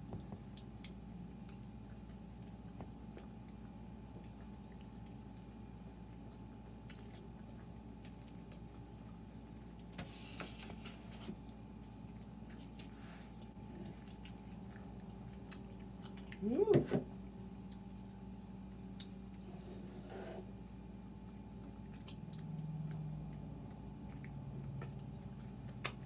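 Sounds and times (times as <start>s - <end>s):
steady low hum: 0.0s - 26.0s
chewing and wet mouth clicks: 0.1s - 10.0s, 11.4s - 16.5s, 18.8s - 19.5s, 20.8s - 26.0s.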